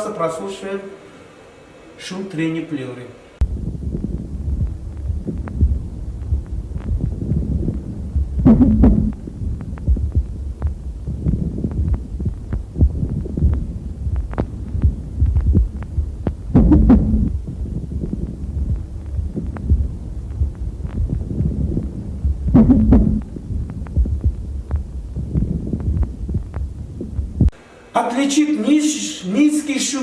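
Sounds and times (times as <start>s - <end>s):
low rumble through stethoscope: 3.4s - 27.5s.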